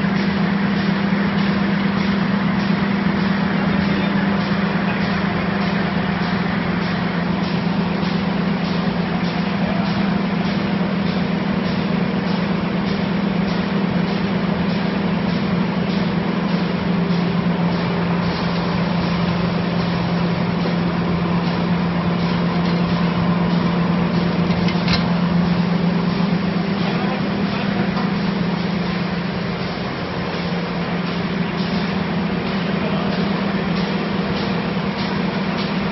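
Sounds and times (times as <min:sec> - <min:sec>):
machine running with low hum: 0:00.0 - 0:35.9.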